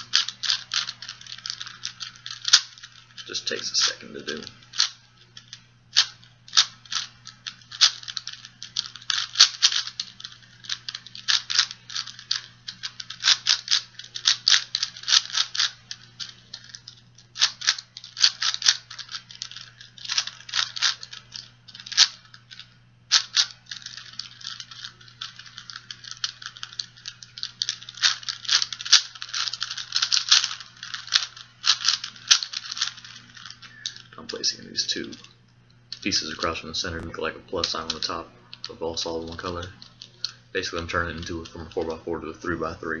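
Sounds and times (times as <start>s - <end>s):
plastic puzzle cube clicking: 0.0s - 35.3s, 35.9s - 42.0s
faint steady hum: 0.0s - 43.0s.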